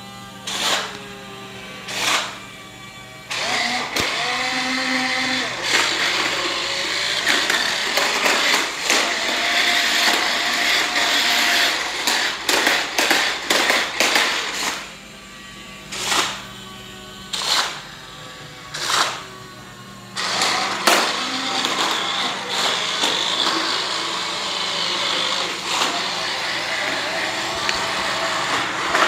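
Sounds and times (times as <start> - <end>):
small motor whirring: 0.0 - 29.0.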